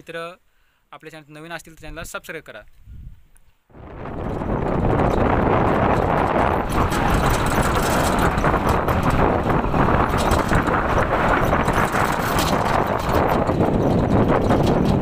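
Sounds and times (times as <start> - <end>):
wind blowing across microphone: 1.8 - 15.0.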